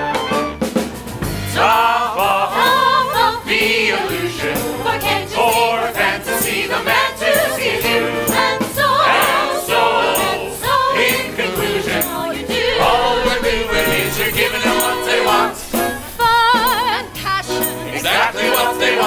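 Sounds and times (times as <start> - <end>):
band playing upbeat show tune: 0.0 - 19.0
bright percussion beat: 0.8 - 19.0.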